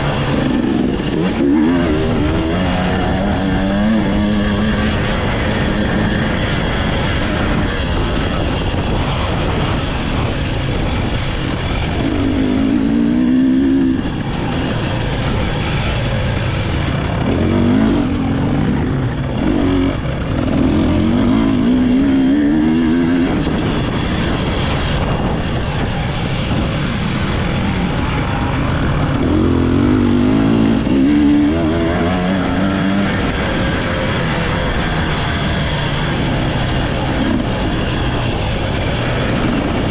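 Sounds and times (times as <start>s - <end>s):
dirt bike engine revving: 0.0s - 39.9s
loud rushing noise: 0.0s - 39.9s.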